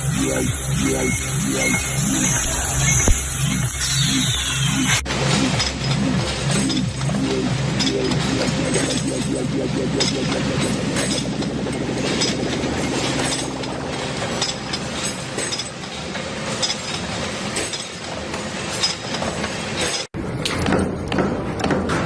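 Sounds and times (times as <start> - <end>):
machine din: 0.0 - 18.4.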